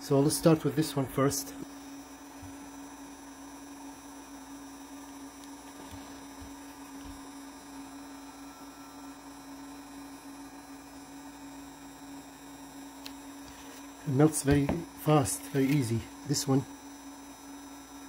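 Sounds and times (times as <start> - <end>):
hot air gun fan humming: 0.0 - 18.0.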